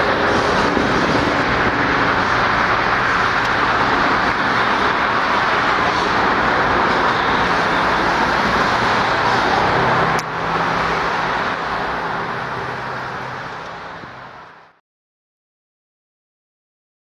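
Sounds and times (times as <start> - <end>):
cars driving on road: 0.0 - 14.8
freight train rolling over bridge: 0.0 - 14.8.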